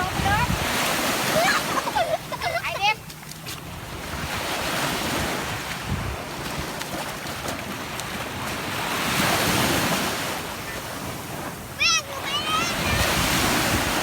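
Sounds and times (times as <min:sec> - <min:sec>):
wind buffeting microphone: 0:00.0 - 0:10.0, 0:12.4 - 0:14.0
sea waves washing onto beach: 0:00.0 - 0:14.0.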